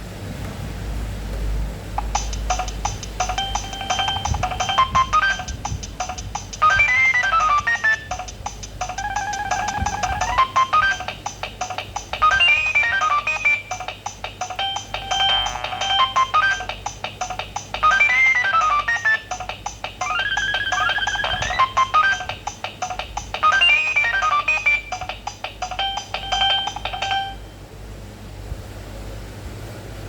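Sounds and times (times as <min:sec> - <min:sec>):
electronic ringtone melody: 0:02.0 - 0:27.6.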